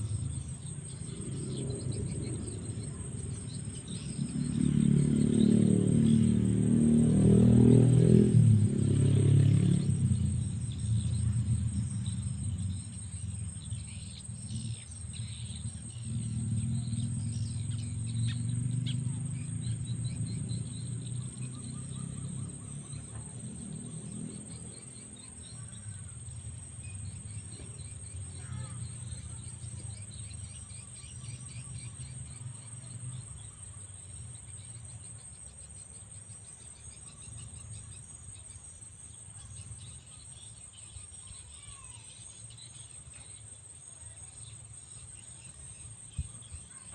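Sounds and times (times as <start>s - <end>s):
faint bird chirps: 0.0s - 6.3s, 8.8s - 46.9s
crickets trilling: 0.0s - 46.9s.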